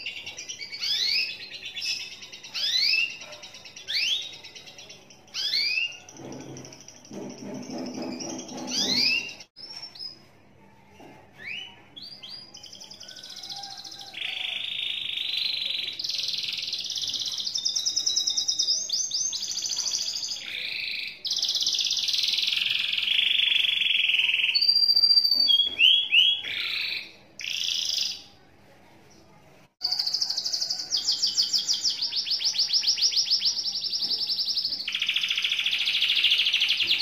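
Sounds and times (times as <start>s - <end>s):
canary singing trills: 0.0s - 10.3s, 11.4s - 28.4s, 29.8s - 37.0s.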